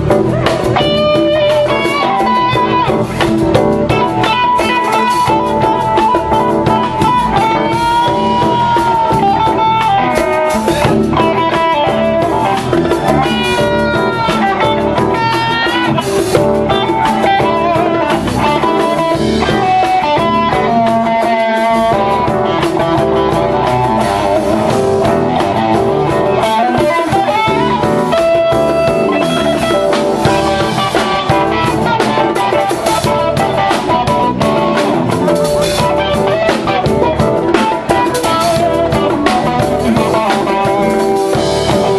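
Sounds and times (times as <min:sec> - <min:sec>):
band playing instrumental: 0:00.0 - 0:41.9
electric guitar lead: 0:00.0 - 0:41.9.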